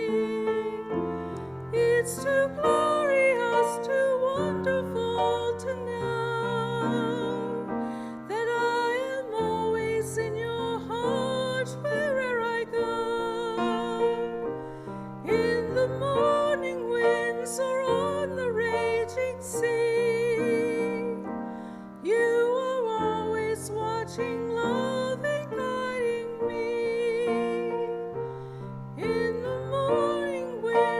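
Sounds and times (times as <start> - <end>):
piano chords: 0.0 - 30.9.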